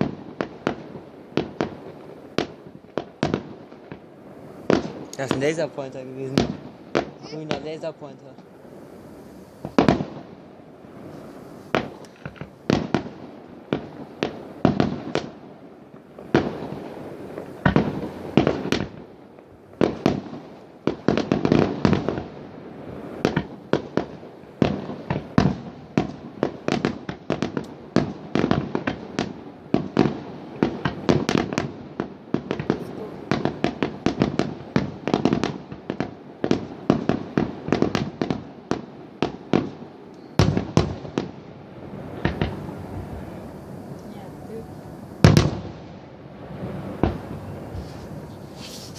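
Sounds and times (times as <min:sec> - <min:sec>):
fireworks and firecrackers banging: 0:00.0 - 0:48.9.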